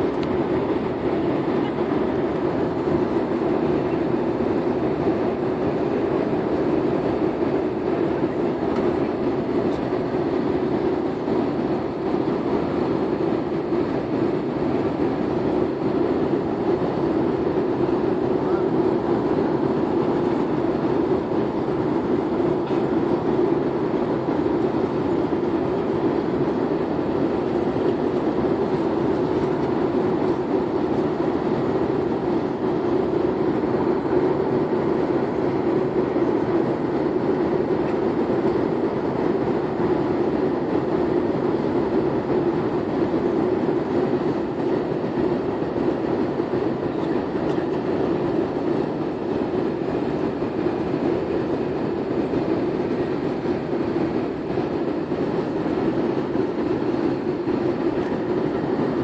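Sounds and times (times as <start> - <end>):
airliner cabin engine hum: 0.0 - 59.0.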